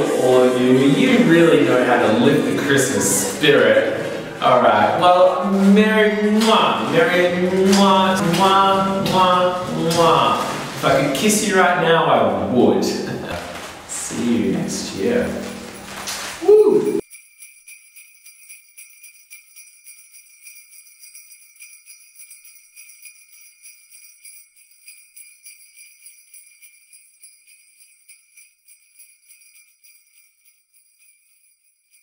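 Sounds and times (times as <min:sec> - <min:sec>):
sleigh bells jingling: 0:00.0 - 0:32.0.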